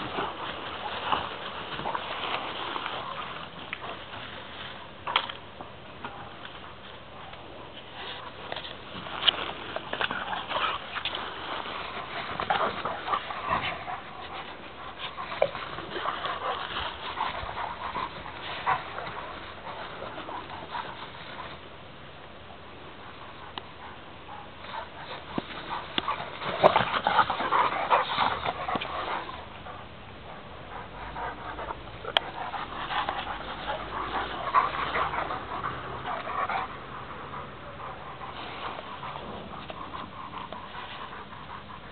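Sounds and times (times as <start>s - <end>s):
dogs panting: 0.0s - 5.2s, 6.0s - 21.8s, 22.9s - 41.9s
dogs scuffling: 0.0s - 21.7s, 24.3s - 29.7s, 30.7s - 41.9s.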